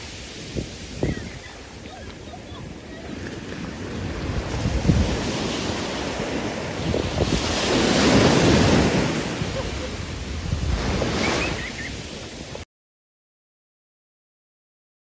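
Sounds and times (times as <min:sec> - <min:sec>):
sea waves washing: 0:00.0 - 0:12.6
wind buffeting microphone: 0:00.0 - 0:12.6.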